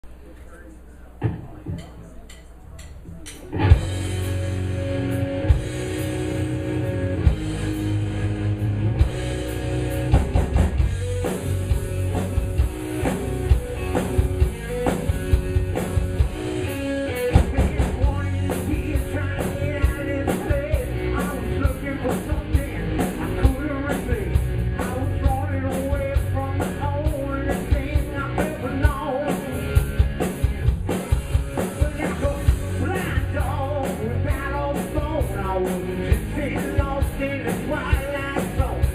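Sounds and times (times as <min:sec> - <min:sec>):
drum kit: 0:01.2 - 0:38.9
guitar: 0:01.2 - 0:38.9.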